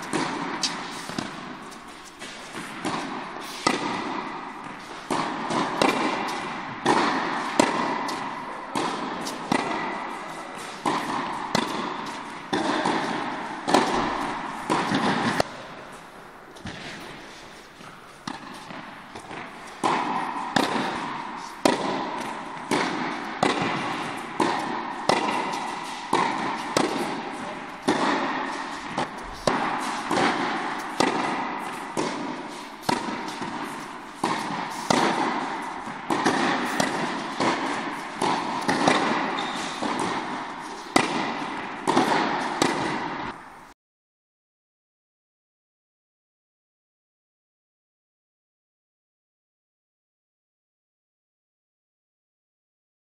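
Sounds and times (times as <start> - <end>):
tennis balls bouncing on hard court: 0.0 - 43.5
tennis balls struck by racquets: 0.0 - 43.8.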